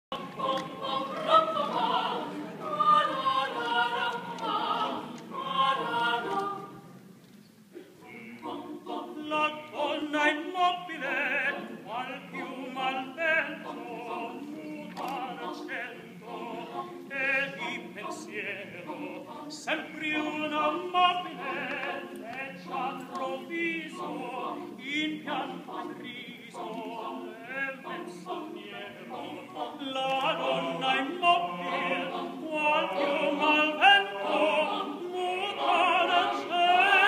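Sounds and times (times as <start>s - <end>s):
a cappella choir singing: 0.1s - 7.0s, 7.8s - 37.0s.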